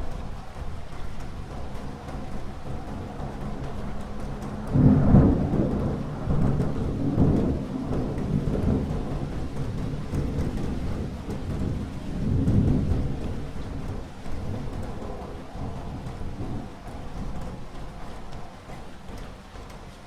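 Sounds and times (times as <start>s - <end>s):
steady rain: 0.0s - 20.0s
rolling thunder: 1.4s - 18.5s.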